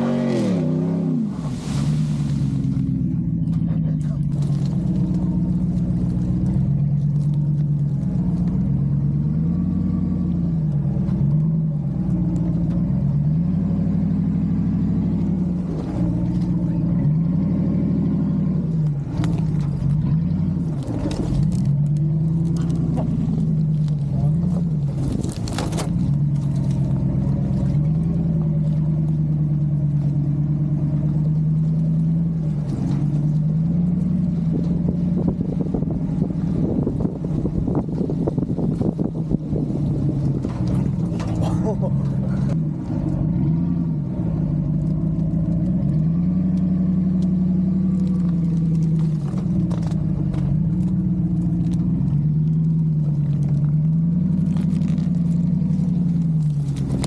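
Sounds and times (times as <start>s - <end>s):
pickup truck engine revving: 0.0s - 57.0s.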